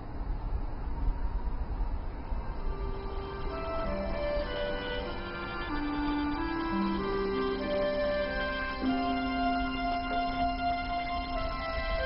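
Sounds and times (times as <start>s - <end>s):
low uneven rumbling: 0.0s - 12.0s.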